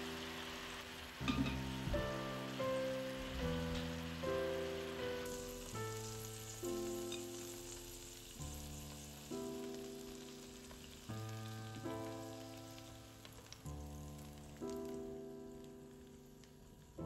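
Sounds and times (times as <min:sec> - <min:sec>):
food sizzling in oil: 0:00.0 - 0:17.0
soft piano chords: 0:00.0 - 0:17.0.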